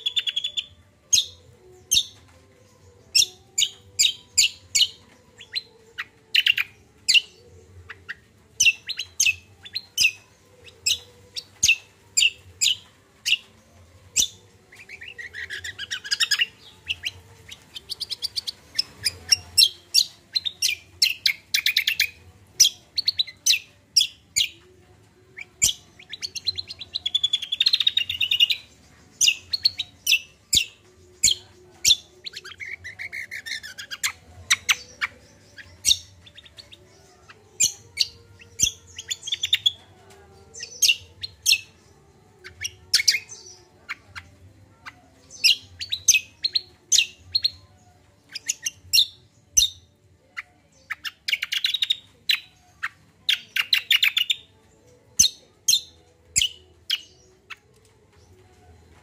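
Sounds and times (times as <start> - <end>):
songbird chirping and warbling: 0.0 - 59.0.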